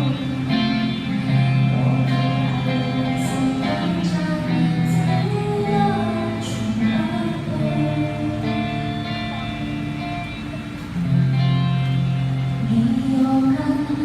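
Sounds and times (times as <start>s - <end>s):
guitar chords: 0.0s - 14.0s
person singing: 0.0s - 14.0s.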